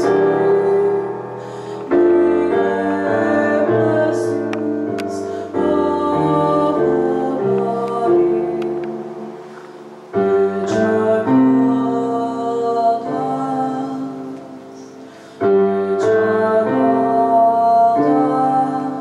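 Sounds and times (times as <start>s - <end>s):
slow keyboard chords: 0.0s - 19.0s.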